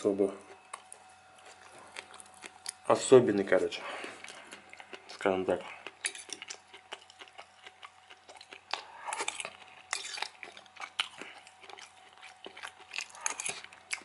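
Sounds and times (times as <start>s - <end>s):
chewing food: 0.4s - 14.0s.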